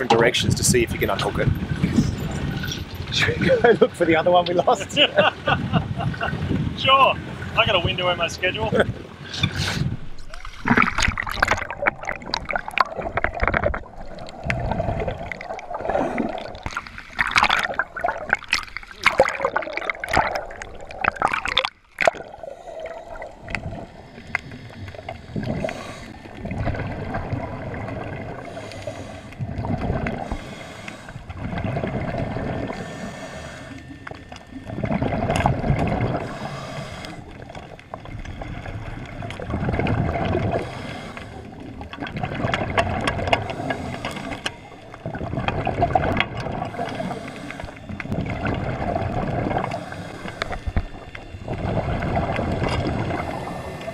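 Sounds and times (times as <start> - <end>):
muffled underwater bubbling: 0.0 - 53.9
water splashing: 0.0 - 53.9.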